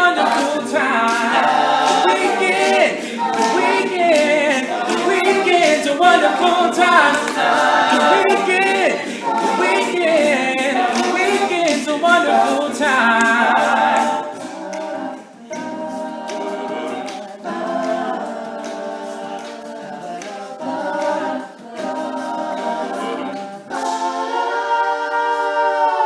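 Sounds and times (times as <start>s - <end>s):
lead voice singing runs: 0.0s - 24.0s
male a cappella group singing: 0.0s - 26.0s.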